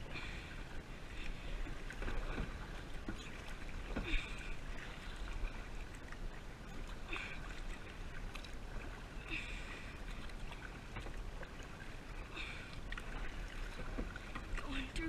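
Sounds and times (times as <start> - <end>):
kayak paddle splashing: 0.0 - 15.0
water washing: 0.0 - 15.0.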